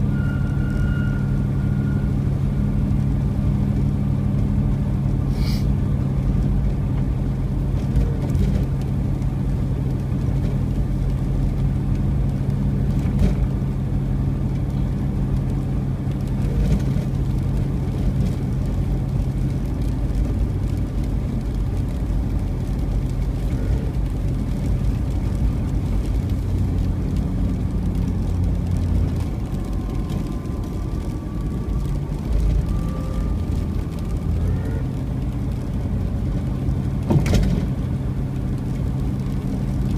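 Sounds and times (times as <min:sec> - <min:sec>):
car engine and road hum: 0:00.0 - 0:39.9.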